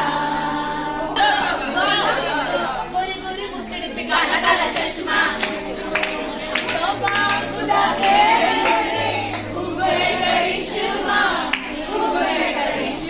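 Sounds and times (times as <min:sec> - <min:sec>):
women singing in chorus: 0:00.0 - 0:13.0.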